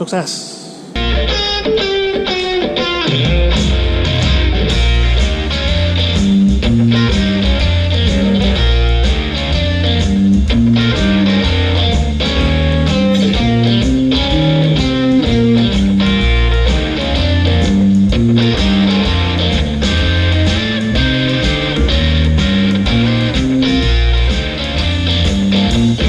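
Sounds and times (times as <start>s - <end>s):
guitar music with bass line: 0.9s - 26.0s.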